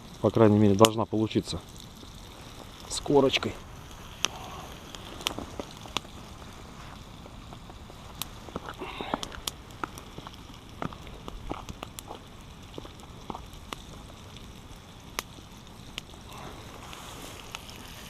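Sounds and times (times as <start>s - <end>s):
fish frying in oil: 0.0s - 7.8s, 8.4s - 18.0s.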